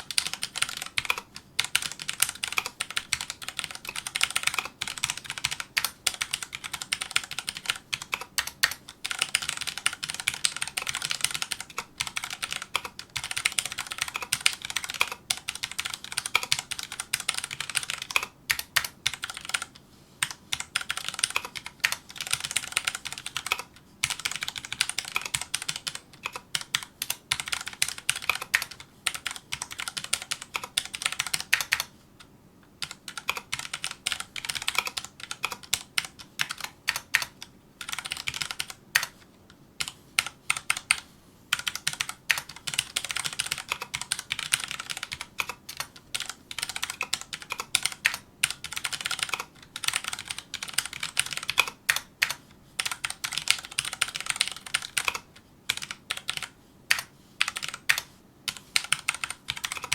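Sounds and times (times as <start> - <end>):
mechanical keyboard typing: 0.0 - 31.9, 32.8 - 59.9.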